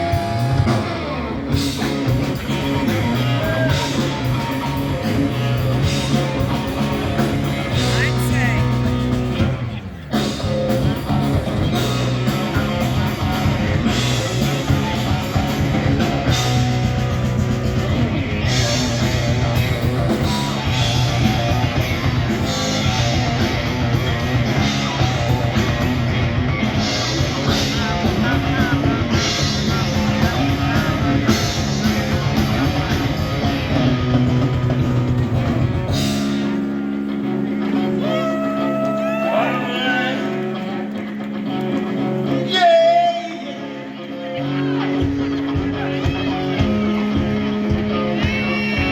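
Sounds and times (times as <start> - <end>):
drum kit beat: 0.0 - 39.2
electric guitar chords ringing: 0.0 - 48.9
rock band playing live: 0.0 - 48.9.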